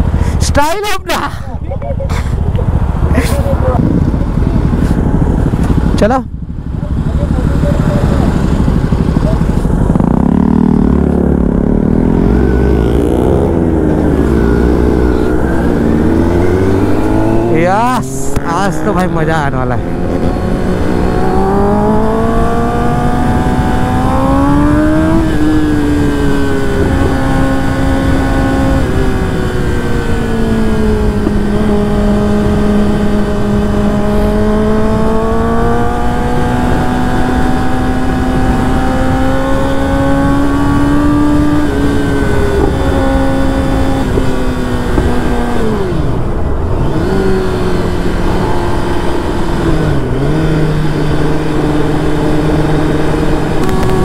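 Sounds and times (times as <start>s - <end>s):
steady rushing noise: 0.0s - 54.0s
motorcycle engine revving: 1.4s - 54.0s.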